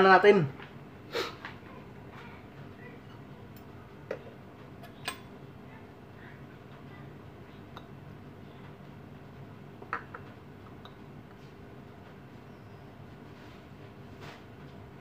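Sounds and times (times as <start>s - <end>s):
steady low hum: 0.4s - 15.0s.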